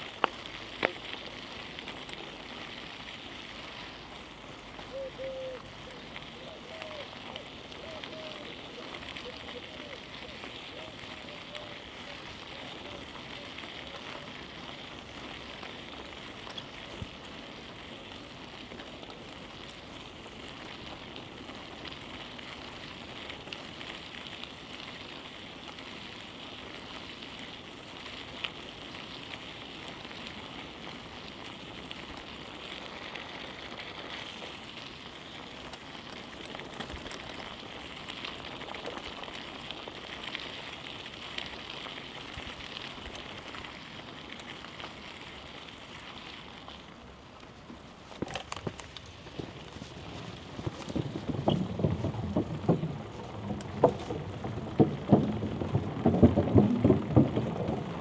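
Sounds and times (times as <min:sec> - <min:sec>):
bicycle tyres rolling on pavement: 0:00.0 - 0:58.0.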